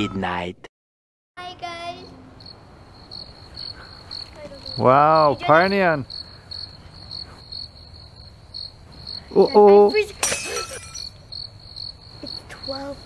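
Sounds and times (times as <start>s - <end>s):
crickets chirping: 1.4s - 13.0s.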